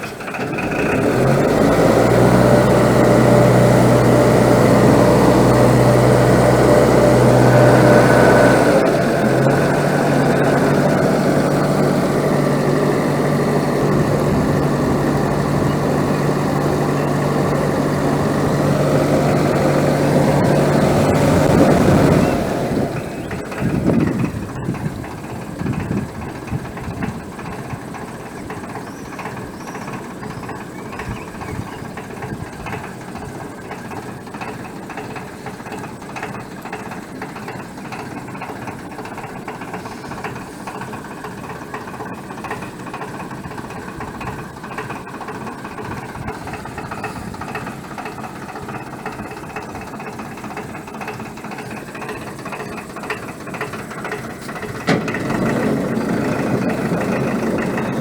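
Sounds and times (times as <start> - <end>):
barge engine running: 0.0 - 58.0.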